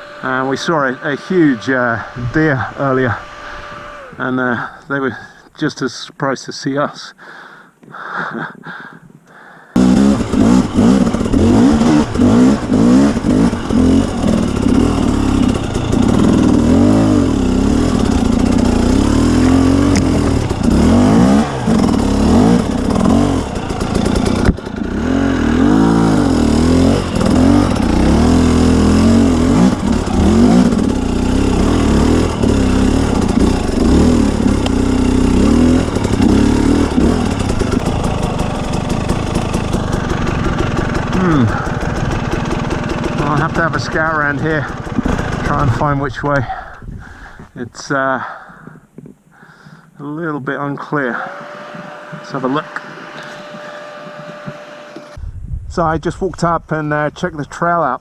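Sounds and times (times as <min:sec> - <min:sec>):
dirt bike engine revving: 0:00.0 - 0:05.3, 0:09.8 - 0:47.4, 0:49.6 - 0:55.2.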